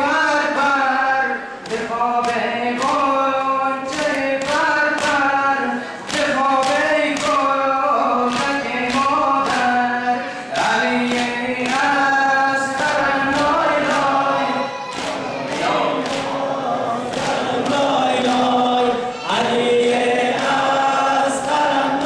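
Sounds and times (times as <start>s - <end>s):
men chanting through microphones: 0.0s - 22.0s.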